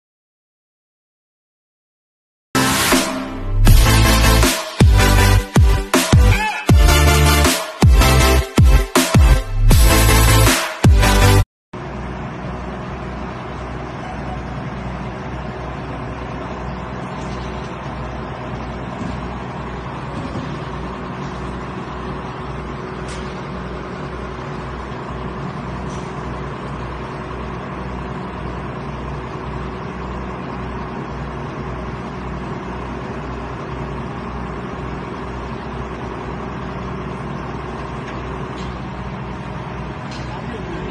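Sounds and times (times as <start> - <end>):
diesel engine throbbing: 2.6 - 40.9.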